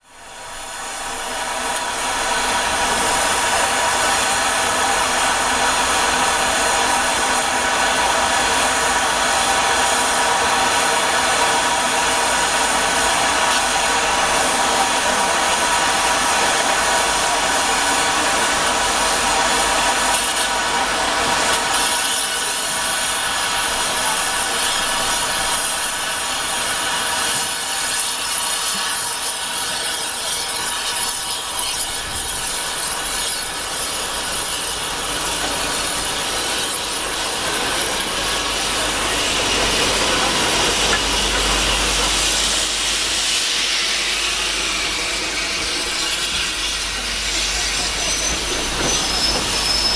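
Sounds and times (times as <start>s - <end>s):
steam locomotive hissing: 0.0s - 49.9s.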